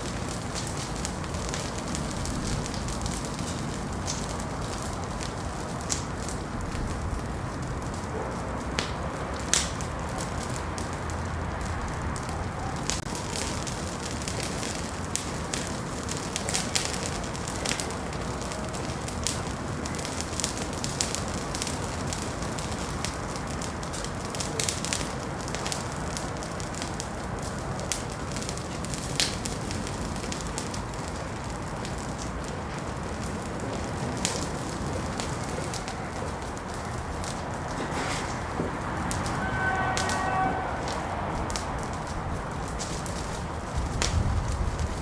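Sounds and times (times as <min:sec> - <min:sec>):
hiss of burning: 0:00.0 - 0:45.0
wood fire crackling and popping: 0:00.0 - 0:45.0.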